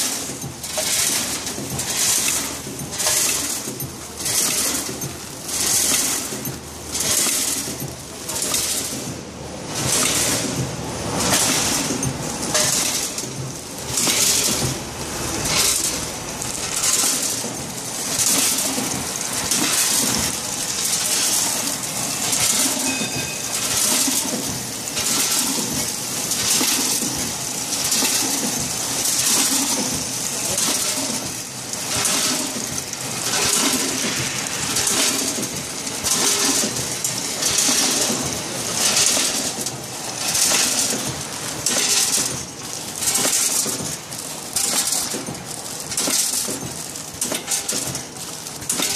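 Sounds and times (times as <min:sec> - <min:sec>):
machine rattling: 0:00.0 - 0:48.9
packing machine hissing rush: 0:00.0 - 0:48.9
steady mechanical clatter: 0:00.0 - 0:48.9.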